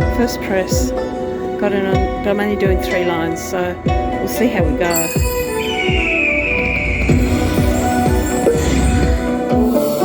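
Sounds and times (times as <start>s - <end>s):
electronic slot machine music: 0.0s - 10.0s.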